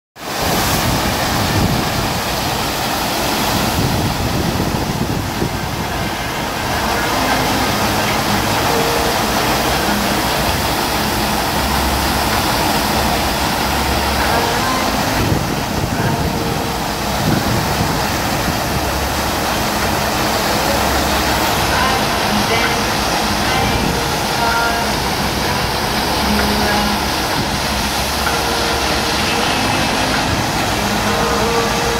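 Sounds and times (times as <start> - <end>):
water rushing up a ramp: 0.2 - 31.9.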